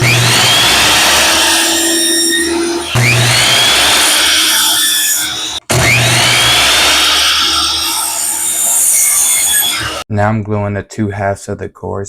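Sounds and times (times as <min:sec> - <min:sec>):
power saw cutting wood: 0:00.0 - 0:10.0.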